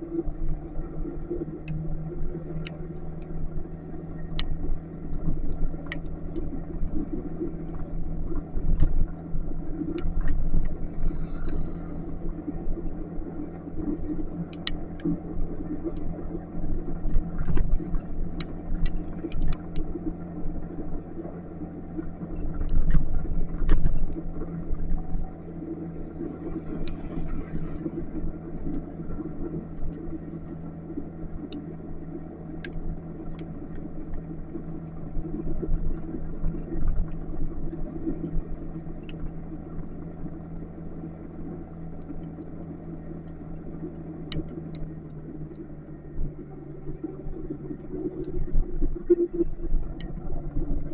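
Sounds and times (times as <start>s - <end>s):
low rumble: 0.0s - 50.9s.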